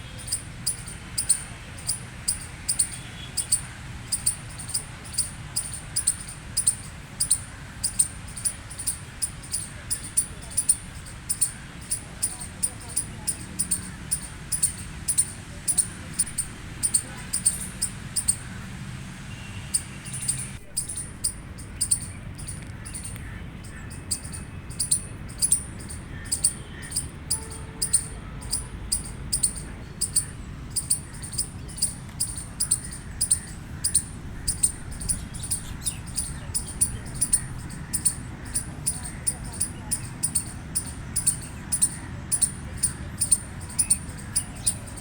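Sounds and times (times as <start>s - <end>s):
squirrel chirping: 0.0s - 18.7s, 19.3s - 45.0s.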